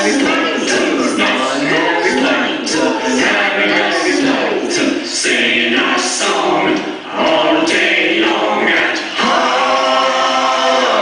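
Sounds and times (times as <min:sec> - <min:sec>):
voices singing a cappella chant: 0:00.0 - 0:11.0.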